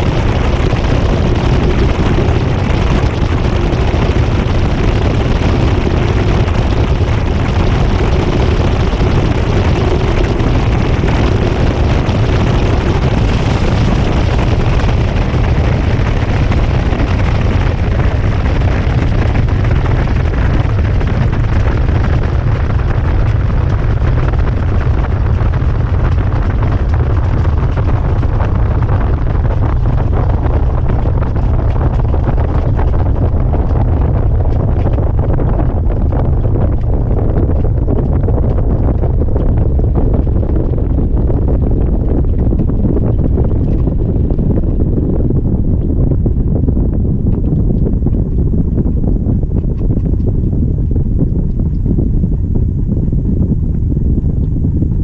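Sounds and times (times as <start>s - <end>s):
rushing air on microphone: 0.0s - 55.0s
washing machine spinning: 0.0s - 55.0s.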